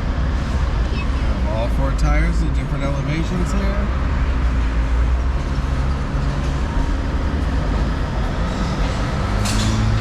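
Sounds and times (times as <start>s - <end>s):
vehicle rumbling and rattling: 0.0s - 10.0s.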